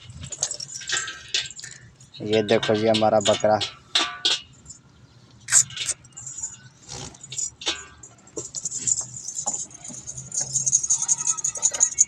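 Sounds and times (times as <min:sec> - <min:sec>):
fast metallic jingling: 0:00.0 - 0:04.9, 0:05.5 - 0:12.0
clicks and rustles: 0:00.0 - 0:12.0.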